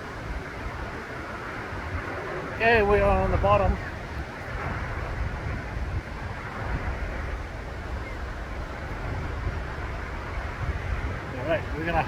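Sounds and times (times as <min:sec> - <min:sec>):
waterfall roaring: 0:00.0 - 0:12.0
wind rumbling on microphone: 0:00.0 - 0:12.0.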